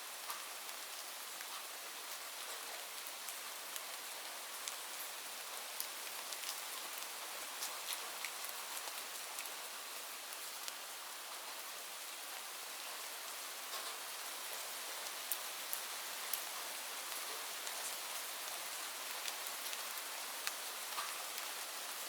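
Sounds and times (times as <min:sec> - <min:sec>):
steady rainfall: 0:00.0 - 0:22.0.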